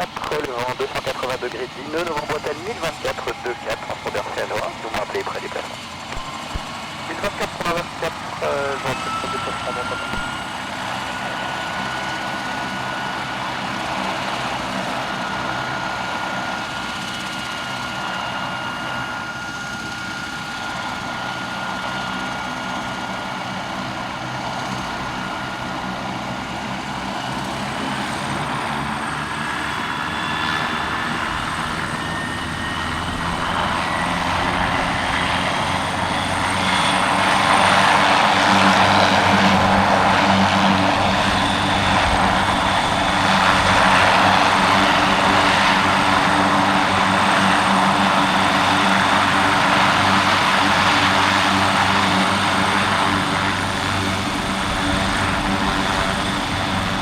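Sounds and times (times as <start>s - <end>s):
helicopter turbine whine: 0.0s - 57.0s.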